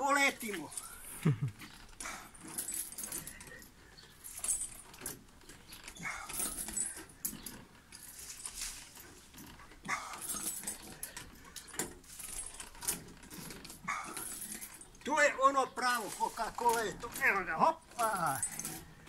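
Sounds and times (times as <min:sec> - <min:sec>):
swing chains jangling and creaking: 0:00.0 - 0:19.0
swing squeaking: 0:00.0 - 0:19.0.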